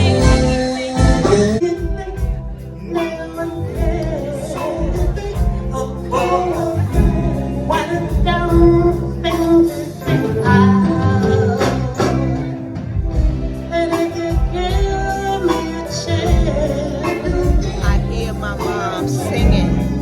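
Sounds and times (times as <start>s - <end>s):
low bass line: 0.0s - 20.0s
person singing: 0.0s - 20.0s.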